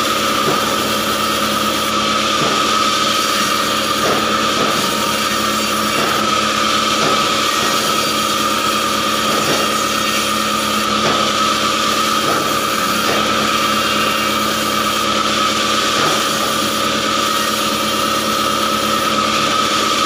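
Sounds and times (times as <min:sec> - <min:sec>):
band saw cutting log: 0:00.0 - 0:20.0.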